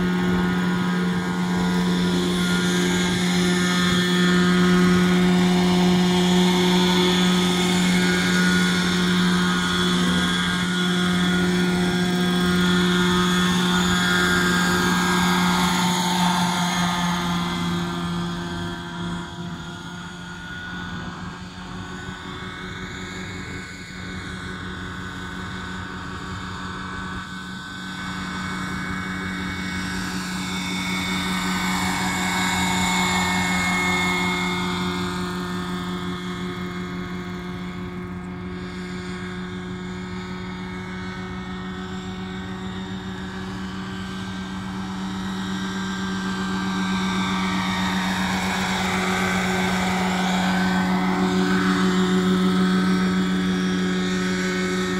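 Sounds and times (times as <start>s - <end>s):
model helicopter rotor hum: 0.0s - 54.9s.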